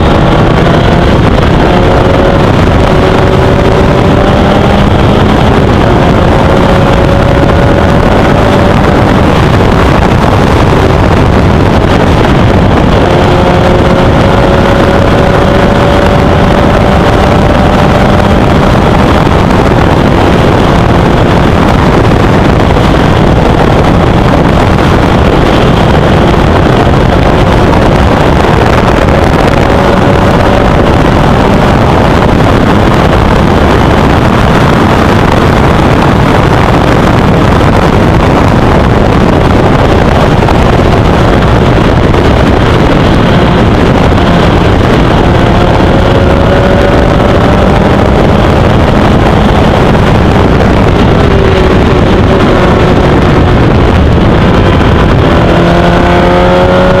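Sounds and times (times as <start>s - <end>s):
race car engine at speed: 0.0s - 57.0s.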